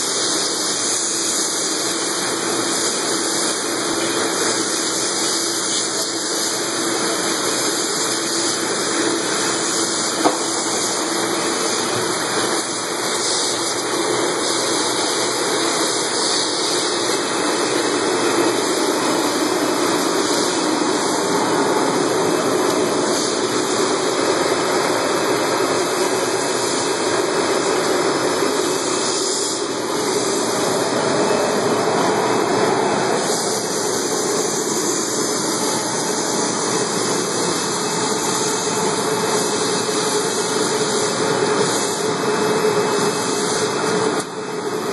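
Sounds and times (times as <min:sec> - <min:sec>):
water spraying and churning: 0:00.0 - 0:44.9.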